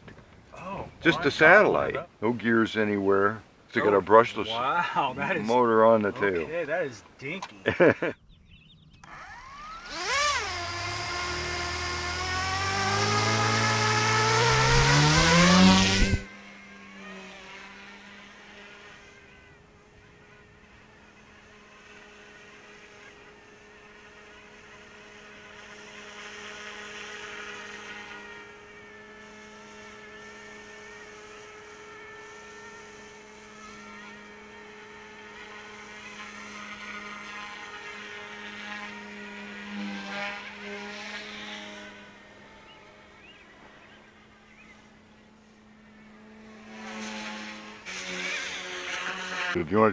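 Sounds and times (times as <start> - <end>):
rc helicopter motor whine: 7.4 - 49.9.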